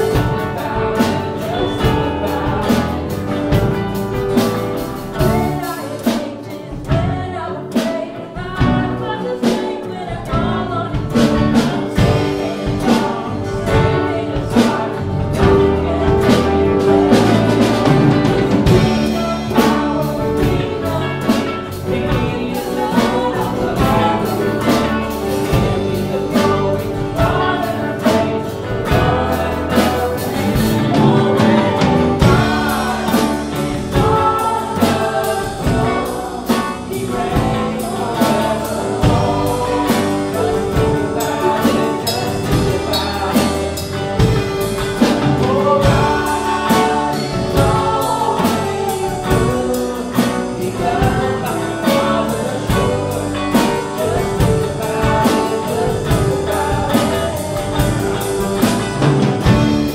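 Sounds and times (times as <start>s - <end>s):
drum kit beat: 0.0s - 59.9s
guitars: 0.0s - 59.9s
people singing: 0.0s - 59.9s
piano: 0.0s - 59.9s.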